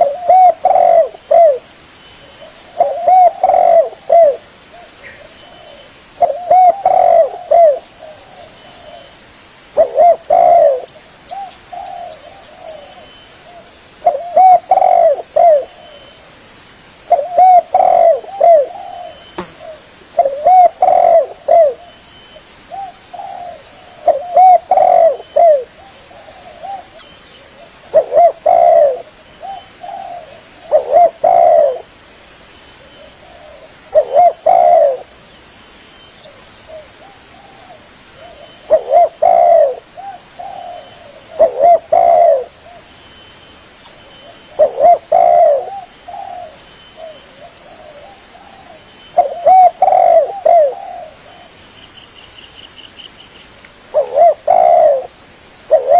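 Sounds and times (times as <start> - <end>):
dove cooing: 0.0 - 9.2, 9.8 - 16.3, 17.1 - 22.1, 22.7 - 32.0, 32.8 - 35.2, 36.3 - 42.9, 44.1 - 51.6, 53.9 - 55.9.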